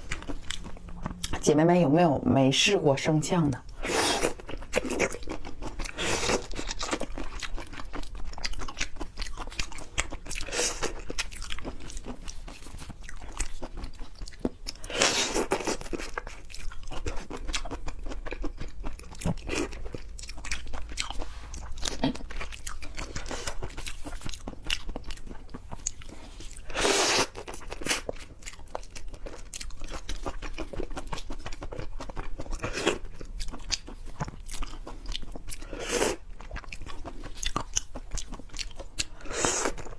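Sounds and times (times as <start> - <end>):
chewing and crunching shrimp: 0.0 - 1.5, 3.5 - 39.9.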